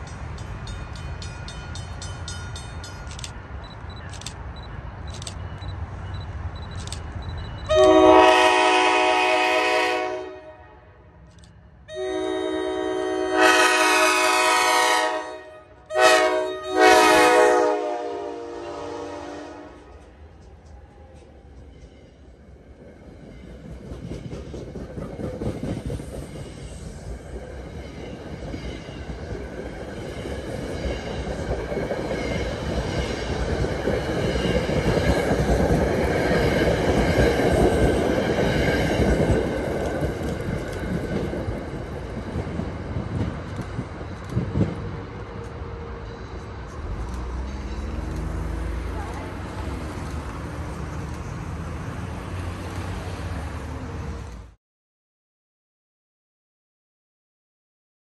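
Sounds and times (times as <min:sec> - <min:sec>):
train wheels rumbling on rails: 0:00.0 - 0:10.2, 0:11.2 - 0:54.6.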